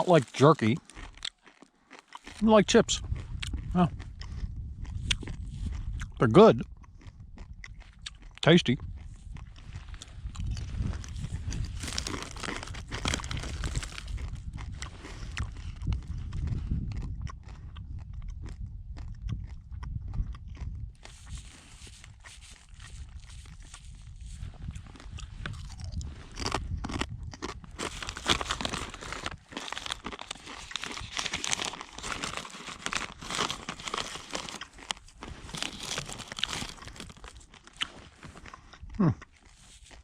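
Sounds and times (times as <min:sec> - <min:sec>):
crunchy meat chips being chewed: 0:00.0 - 0:40.0.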